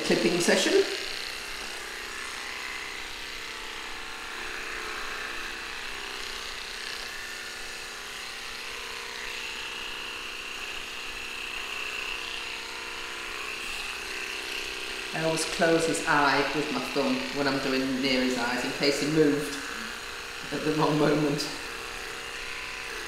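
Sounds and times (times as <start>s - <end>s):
electric clippers buzzing: 0.0s - 23.0s.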